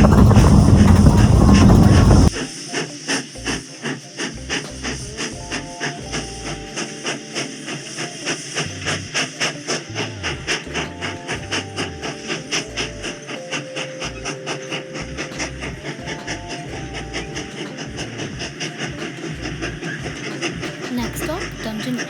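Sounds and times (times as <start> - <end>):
background music with steady beat: 0.0 - 22.0.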